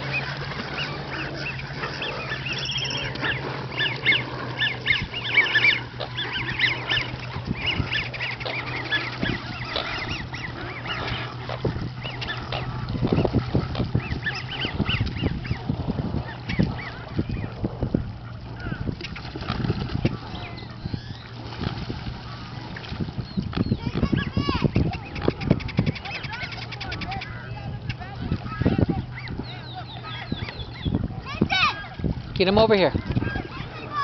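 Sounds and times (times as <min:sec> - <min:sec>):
geese honking: 0:00.0 - 0:22.9, 0:23.5 - 0:34.0.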